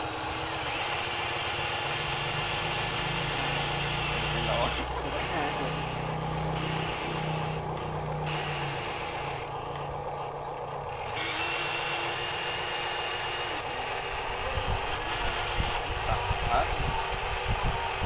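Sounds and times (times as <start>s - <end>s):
small electric motors whining: 0.0s - 18.0s.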